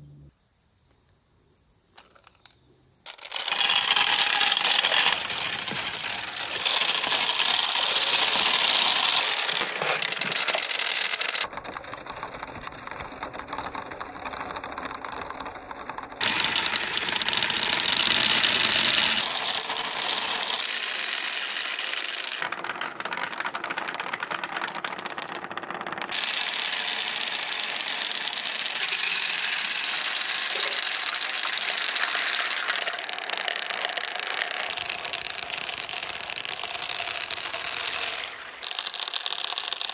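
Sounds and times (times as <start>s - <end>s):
balls rattling in plastic pipes: 2.0s - 39.9s.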